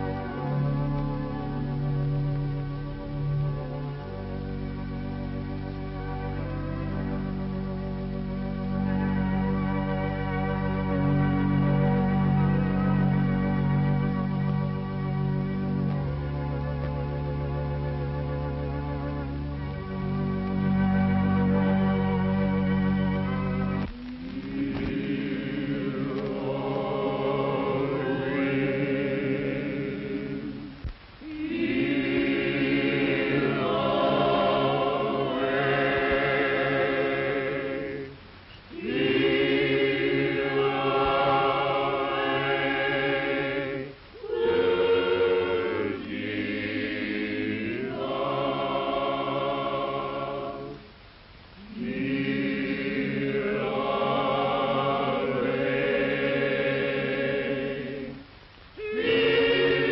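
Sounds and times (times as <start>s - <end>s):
choir singing: 0.0s - 50.9s, 51.6s - 59.9s.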